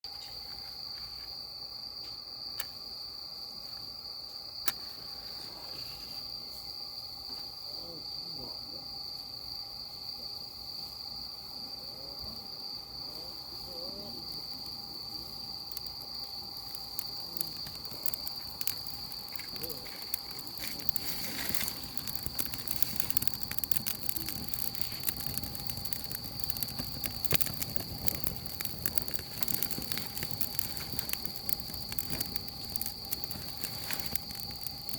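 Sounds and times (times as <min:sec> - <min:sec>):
insects chirring: 0:00.0 - 0:34.9
wood fire crackling: 0:00.1 - 0:34.9.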